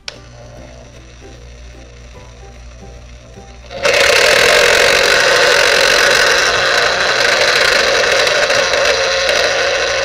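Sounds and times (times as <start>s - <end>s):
juicer motor whirring: 0.0s - 10.0s.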